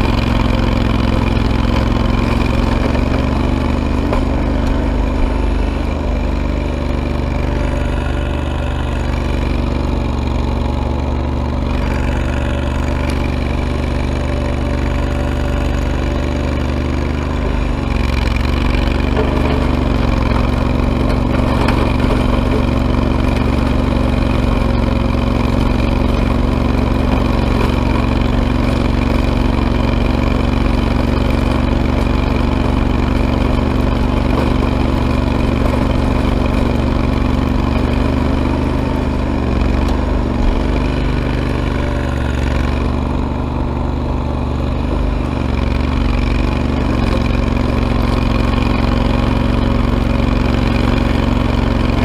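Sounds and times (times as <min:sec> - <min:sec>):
lawn tractor engine running: 0:00.0 - 0:52.0
plow blade pushing snow: 0:00.0 - 0:52.0.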